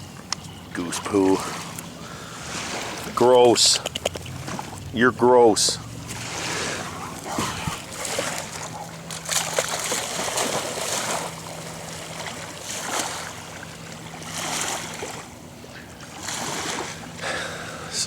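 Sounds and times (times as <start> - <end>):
river water splashing: 0.0 - 18.0.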